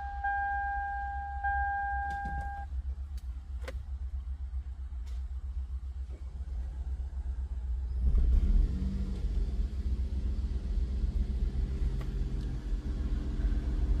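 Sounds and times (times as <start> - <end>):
car engine starting and idling: 0.0 - 14.0.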